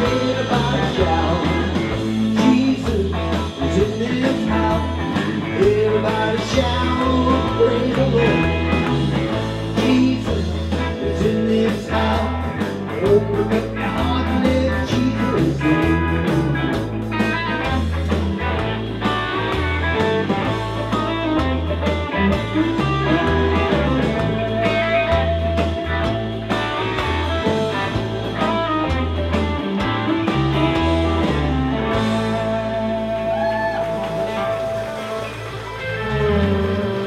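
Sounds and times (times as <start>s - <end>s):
electric guitars: 0.0s - 37.0s
live band playing gospel instrumental: 0.0s - 37.0s.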